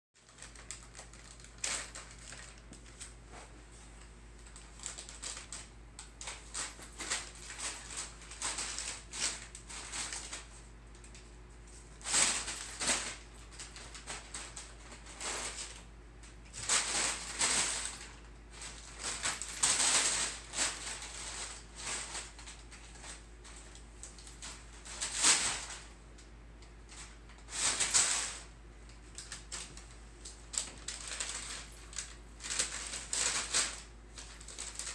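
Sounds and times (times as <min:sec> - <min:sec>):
packing paper crinkling and rustling: 0:00.2 - 0:25.9, 0:26.8 - 0:34.9.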